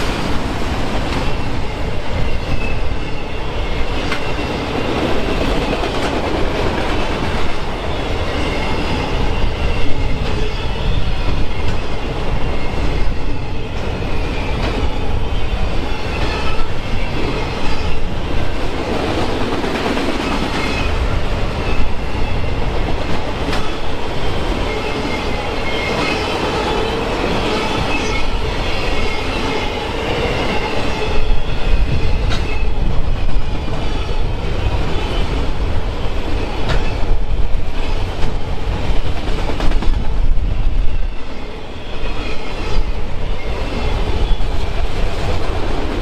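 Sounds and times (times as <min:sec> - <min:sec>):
train wheels rumbling on rails: 0:00.0 - 0:46.0
sharp clicks of train wheels: 0:03.8 - 0:46.0.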